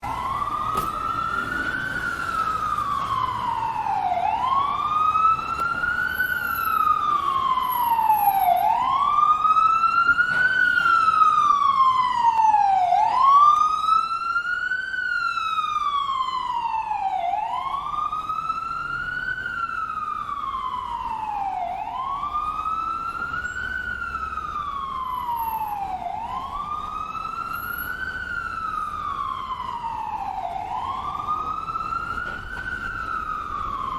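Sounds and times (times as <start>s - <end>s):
ambulance siren wailing: 0.0s - 33.9s.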